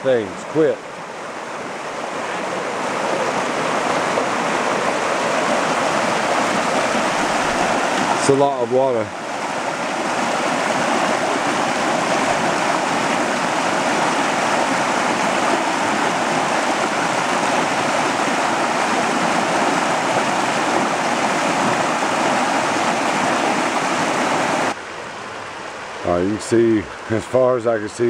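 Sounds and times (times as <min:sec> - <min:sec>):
water rushing over rocks: 0:00.0 - 0:26.3.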